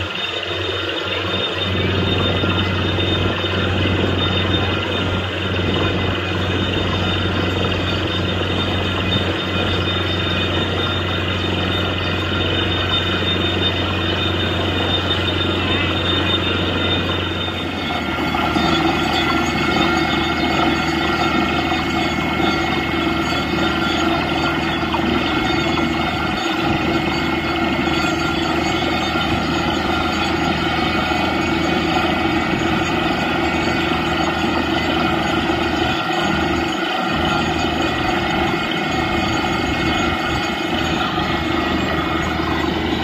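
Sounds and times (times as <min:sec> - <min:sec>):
drilling rig running: 0:00.0 - 0:43.0.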